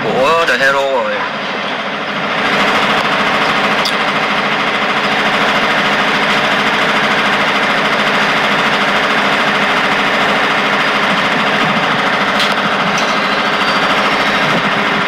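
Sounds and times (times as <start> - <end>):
fast mechanical rattle: 1.5 - 15.0.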